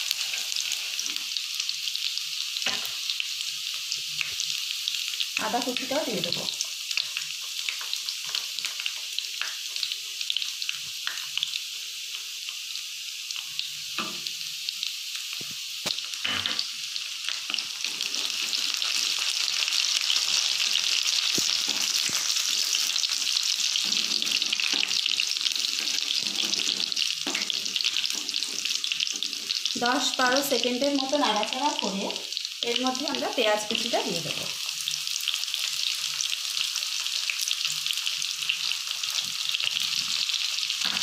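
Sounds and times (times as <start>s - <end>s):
garlic sizzling in hot oil: 0.0s - 41.0s.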